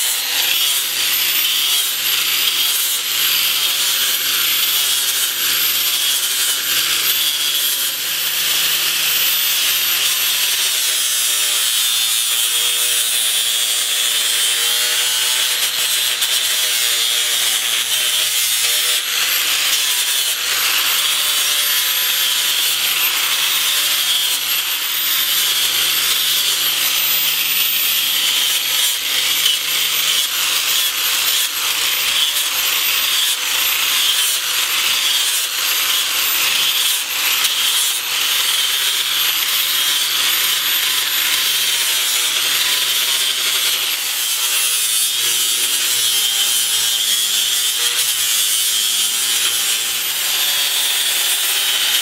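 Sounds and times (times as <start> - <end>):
angle grinder grinding wood: 0.0 - 52.0.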